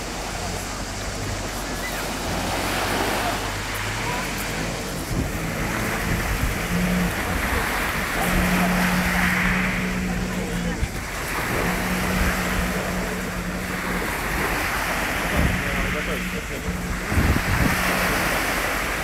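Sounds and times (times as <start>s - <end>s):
jet ski engine humming: 0.0s - 19.0s
water spray rushing: 0.0s - 19.0s
wind: 0.0s - 19.0s.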